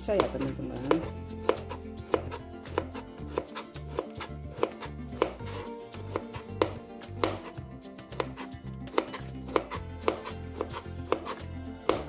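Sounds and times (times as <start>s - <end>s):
knife slicing cucumber: 0.0s - 12.0s.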